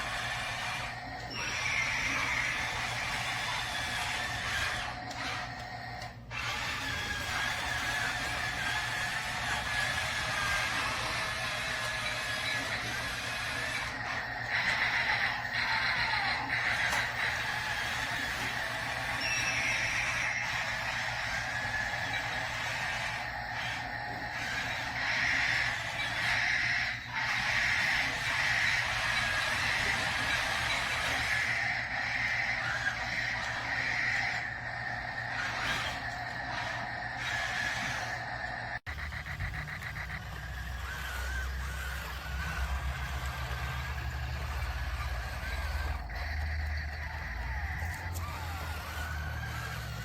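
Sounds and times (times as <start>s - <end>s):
toy tank motor whirring: 0.0s - 50.0s.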